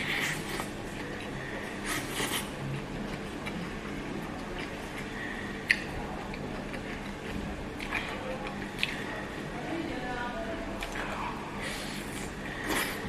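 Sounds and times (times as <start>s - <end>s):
person chewing: 0.0s - 9.4s, 10.8s - 13.0s
low steady hum: 0.0s - 13.0s.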